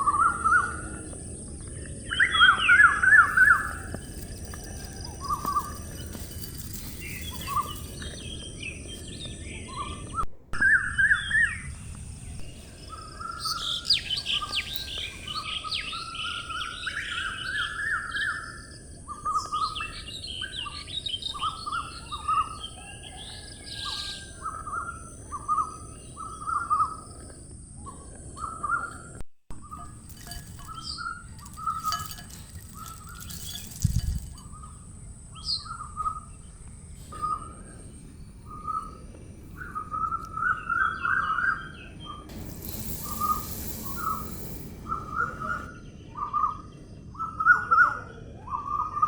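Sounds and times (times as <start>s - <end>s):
birds chirping and trilling: 0.0s - 27.2s, 29.7s - 49.0s.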